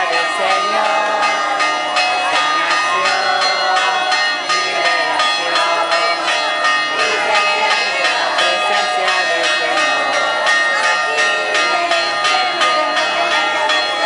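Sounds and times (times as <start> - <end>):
church bells ringing a peal: 0.0 - 14.0
crowd voices: 0.0 - 14.0.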